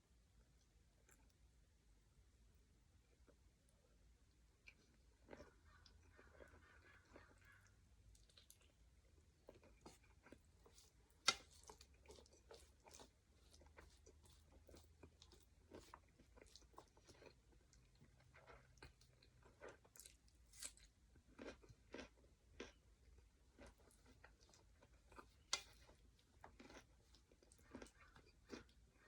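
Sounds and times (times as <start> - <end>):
chewing and crunching food: 3.0 - 29.0.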